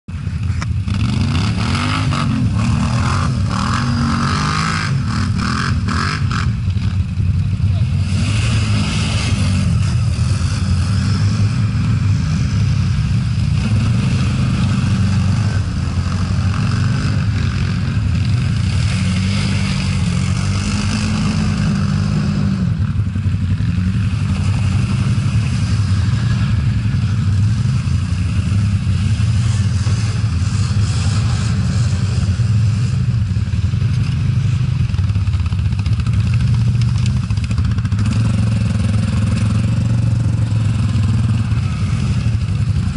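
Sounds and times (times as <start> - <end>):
quad bike engine revving: 0.1 - 42.9.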